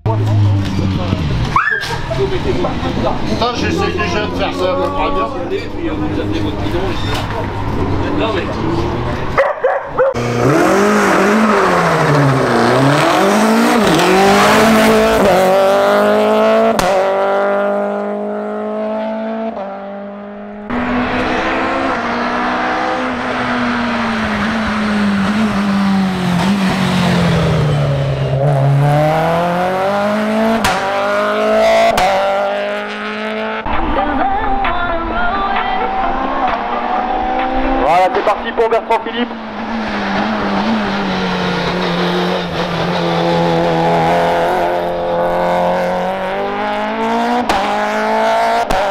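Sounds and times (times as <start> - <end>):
race car engine accelerating: 0.0 - 48.9.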